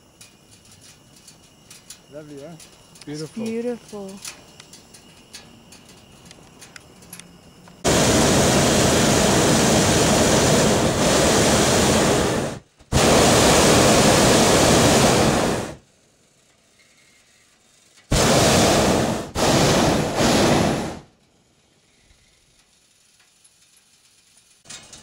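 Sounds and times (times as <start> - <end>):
propane burner firing: 0.0 - 21.8.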